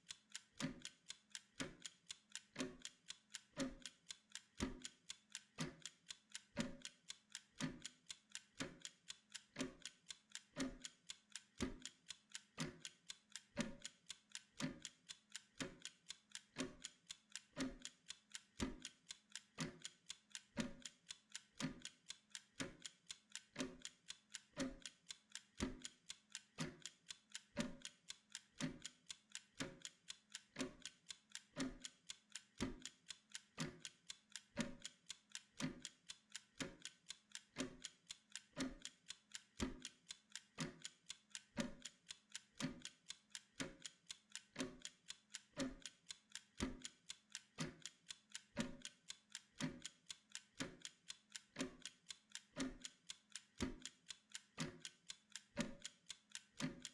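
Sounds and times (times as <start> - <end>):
timer ticking: 0.0 - 56.9.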